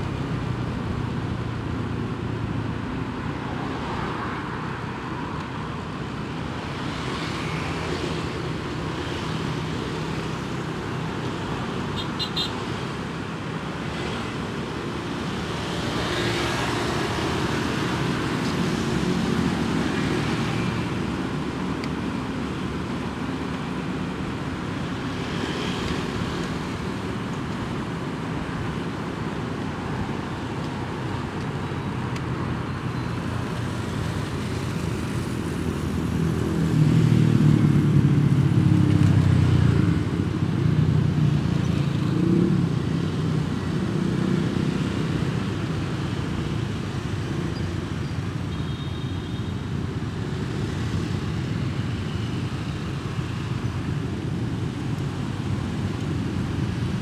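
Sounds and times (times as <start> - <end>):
engines rumbling: 0.0 - 49.0
tyre and road noise: 0.0 - 57.0.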